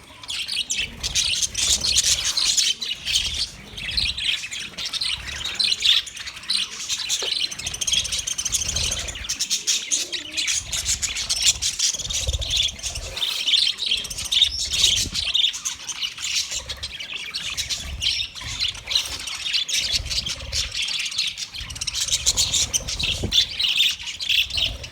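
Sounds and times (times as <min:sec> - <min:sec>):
budgerigars chirping: 0:00.0 - 0:24.9.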